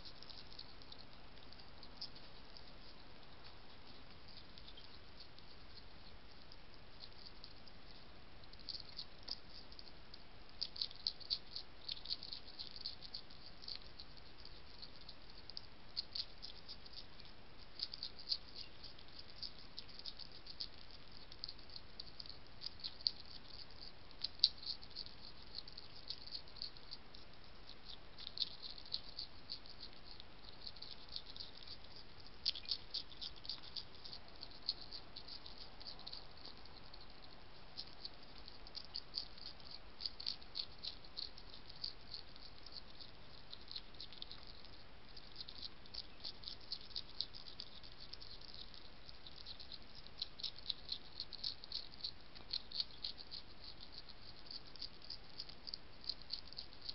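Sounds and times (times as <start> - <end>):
hedgehog chewing food: 0.0 - 56.9.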